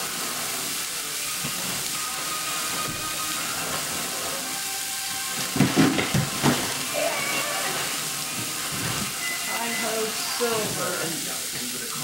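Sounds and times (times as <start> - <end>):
tofu sizzling in a frying pan: 0.0 - 12.0.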